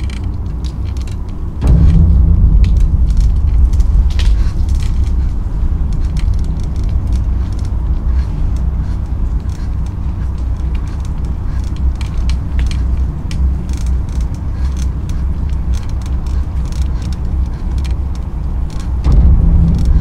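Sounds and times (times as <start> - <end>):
bicycle rattling clicks: 0.0 - 1.6, 4.2 - 20.0
wind rumble on microphone: 0.0 - 20.0.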